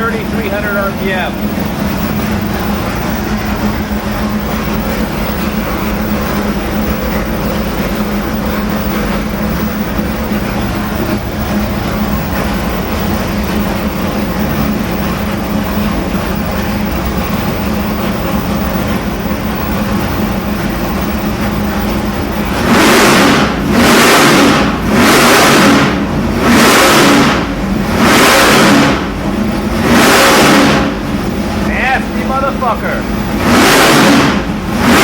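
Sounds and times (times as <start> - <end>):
engine revving blips: 0.0 - 35.0
engine running steadily: 0.0 - 35.0.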